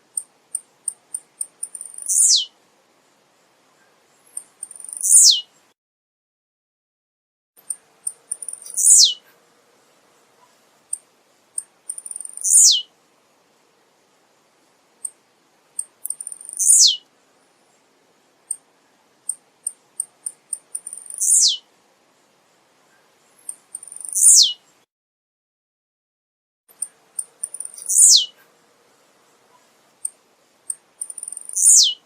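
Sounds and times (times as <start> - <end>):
bird singing ticks and down-sweep: 0.0 - 5.8, 7.6 - 12.9, 14.2 - 24.9, 26.7 - 28.5, 29.1 - 32.0.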